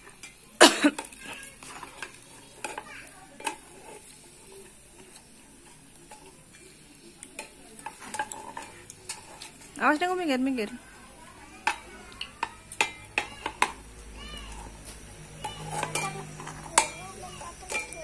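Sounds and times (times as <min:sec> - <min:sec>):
food sizzling in hot oil: 0:00.0 - 0:18.0
metal utensils clinking in a pan: 0:00.0 - 0:18.0.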